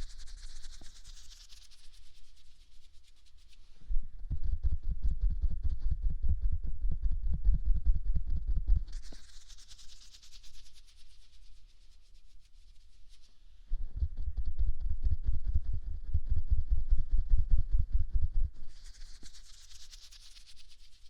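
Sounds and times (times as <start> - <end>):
rubbing and scratching on microphone: 0.0 - 6.6, 7.2 - 21.0.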